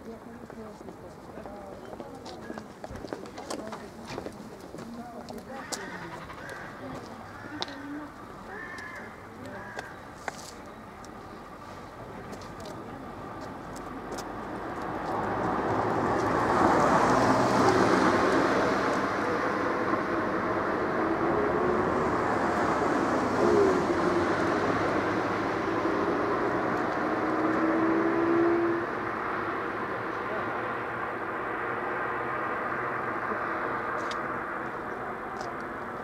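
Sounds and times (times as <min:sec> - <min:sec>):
motor vehicle humming: 0:00.0 - 0:36.0.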